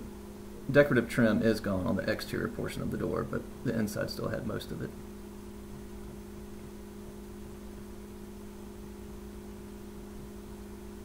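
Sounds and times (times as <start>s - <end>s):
two-tone low hum: 0.0s - 11.0s.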